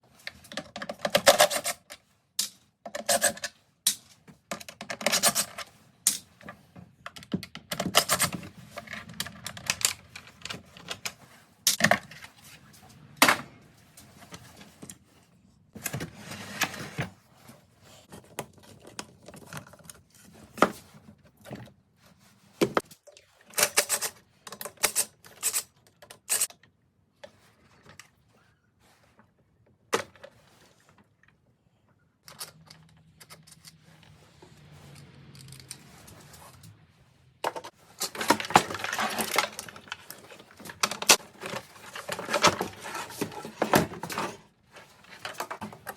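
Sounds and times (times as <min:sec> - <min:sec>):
hand tools handled on workbench: 0:00.1 - 0:26.6, 0:32.2 - 0:45.9.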